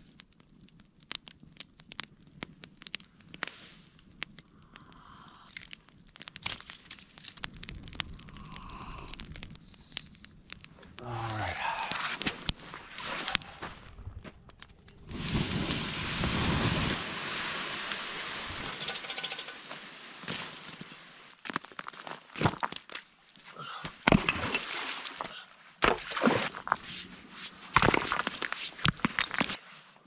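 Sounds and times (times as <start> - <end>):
knocks snaps and crunches: 0.0 - 17.0, 17.8 - 29.7.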